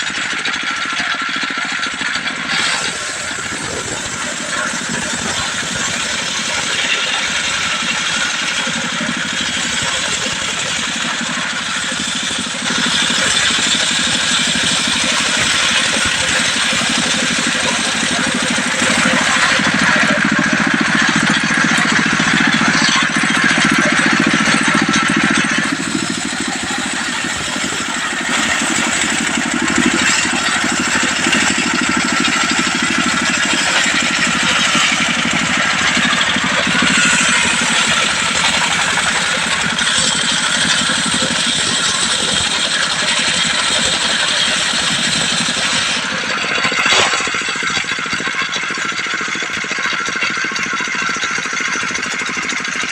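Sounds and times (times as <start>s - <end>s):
circular saw cutting log: 0.0s - 52.9s
diesel engine running: 0.0s - 52.9s.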